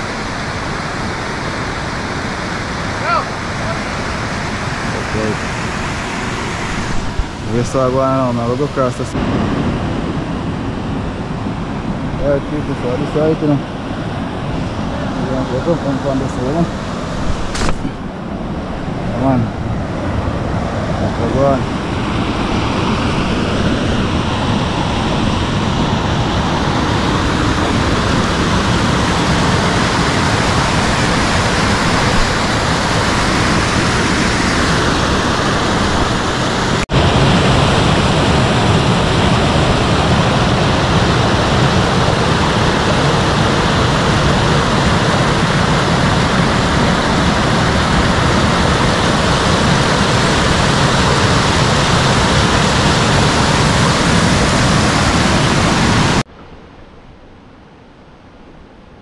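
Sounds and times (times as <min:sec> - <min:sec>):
water rushing over rocks: 0:00.0 - 0:56.4.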